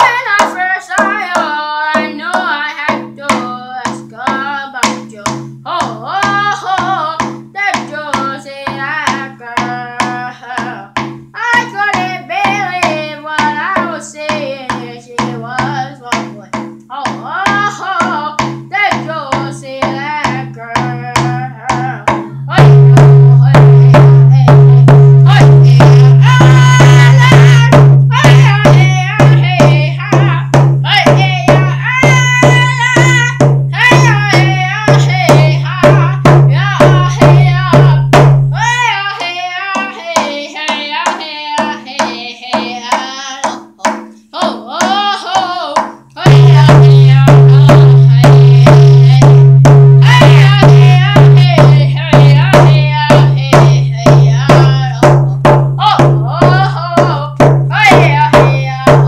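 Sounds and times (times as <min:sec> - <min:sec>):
boy singing: 0:00.0 - 0:59.0
frame drum beating: 0:00.0 - 0:59.0.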